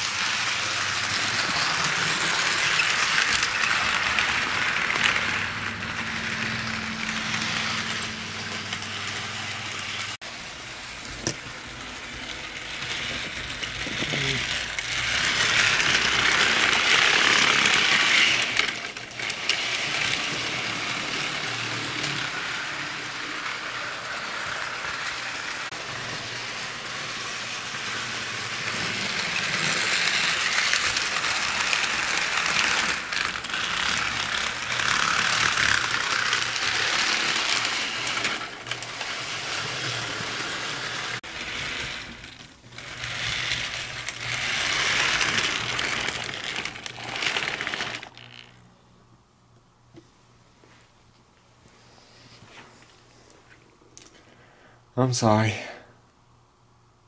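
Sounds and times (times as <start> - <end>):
model train rattling on rails: 0.0 - 48.4.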